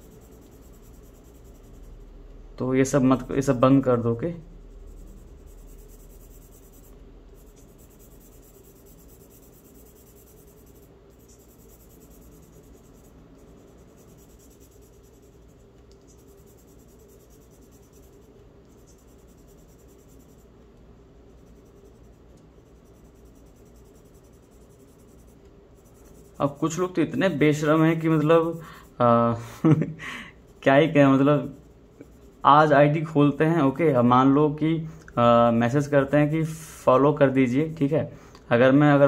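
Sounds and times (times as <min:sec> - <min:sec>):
charcoal scratching on paper: 0:00.0 - 0:02.3, 0:03.0 - 0:20.6, 0:21.2 - 0:29.0, 0:30.5 - 0:37.8
low room hum: 0:00.0 - 0:39.0.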